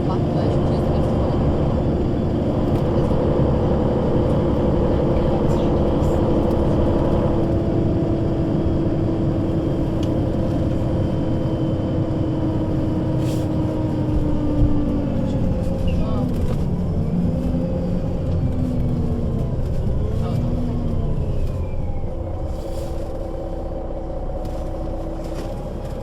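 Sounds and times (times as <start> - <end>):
bus engine and gearbox whine: 0.0 - 26.0.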